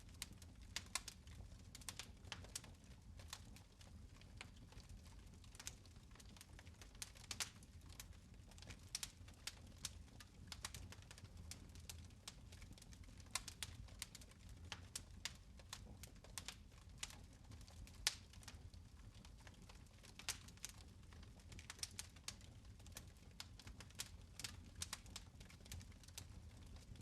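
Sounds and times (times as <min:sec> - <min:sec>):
fire popping and ticking: 0:00.0 - 0:27.0.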